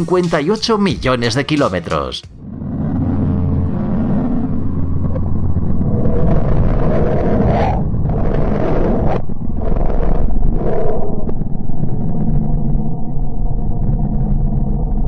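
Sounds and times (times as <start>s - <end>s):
low rumble with growling surges: 2.3s - 15.0s.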